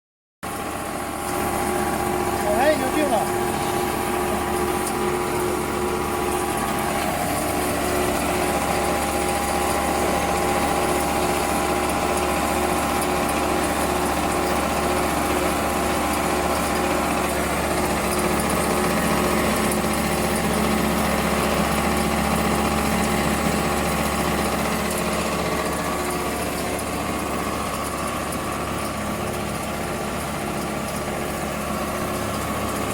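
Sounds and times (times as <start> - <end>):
machine motor hum with whining: 0.5 - 32.9.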